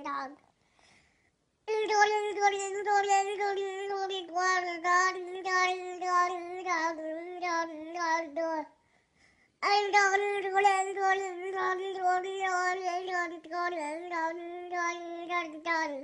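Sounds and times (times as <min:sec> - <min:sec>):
baby babbling: 0:01.7 - 0:08.7, 0:09.6 - 0:16.0.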